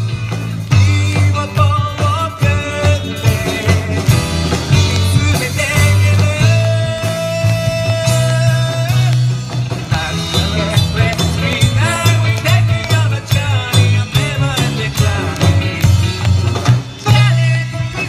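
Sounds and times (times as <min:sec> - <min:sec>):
live rock band playing: 0:00.0 - 0:18.0
men singing: 0:00.6 - 0:18.0.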